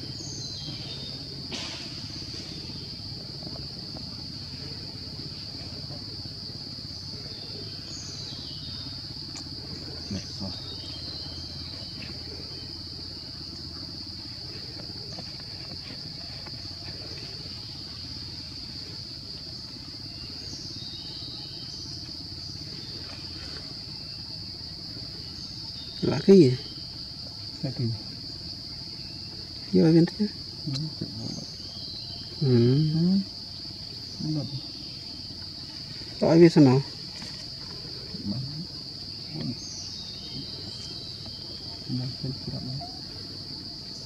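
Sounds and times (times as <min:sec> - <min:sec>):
high-pitched insect drone: 0:00.0 - 0:44.0.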